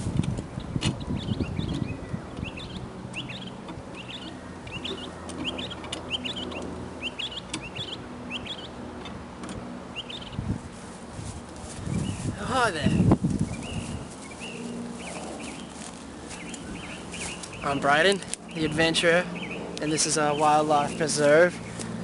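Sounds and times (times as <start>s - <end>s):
birds chirping: 0.2s - 22.0s.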